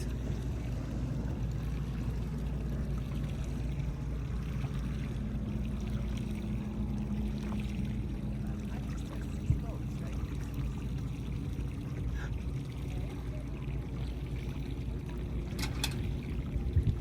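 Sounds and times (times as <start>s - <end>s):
faint steady hum: 0.0s - 17.0s
steady low rumble: 0.0s - 17.0s
water lapping against boat hull: 0.0s - 17.0s.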